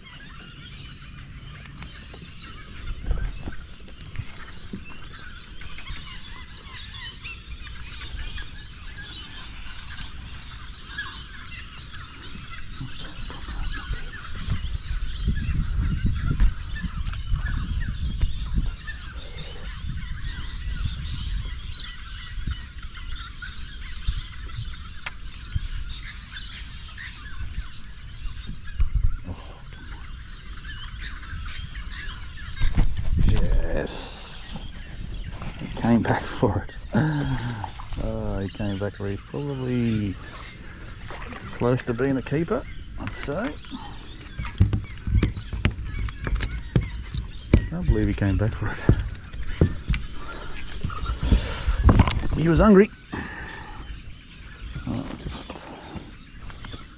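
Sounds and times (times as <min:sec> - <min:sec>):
birds calling and chattering: 0:00.0 - 0:56.9
wind rumble on microphone: 0:00.0 - 0:56.9.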